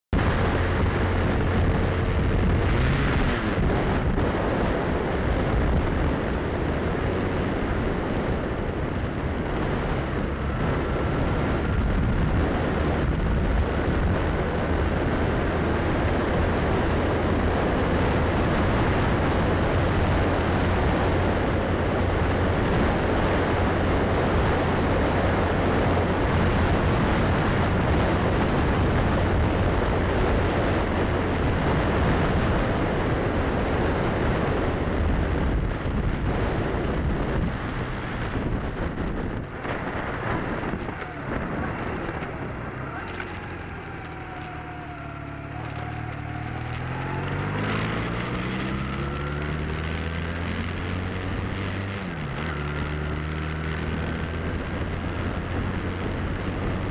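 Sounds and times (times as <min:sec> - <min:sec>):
wind and road noise: 0:00.0 - 0:56.9
motorcycle engine running: 0:00.1 - 0:56.9.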